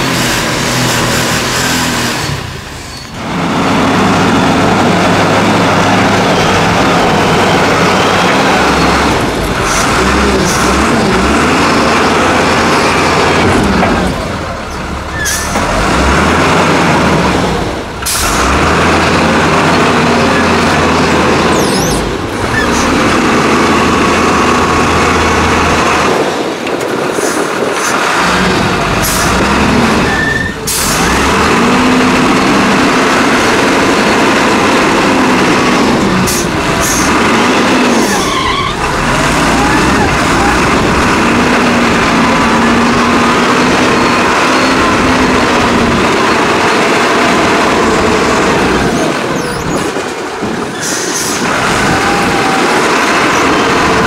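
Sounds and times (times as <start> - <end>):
diesel engine working hard: 0.0 - 54.0.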